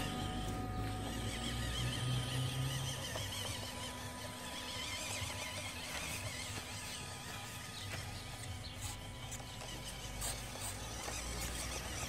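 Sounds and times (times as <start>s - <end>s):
toy truck motor and gears whining: 0.0s - 12.0s.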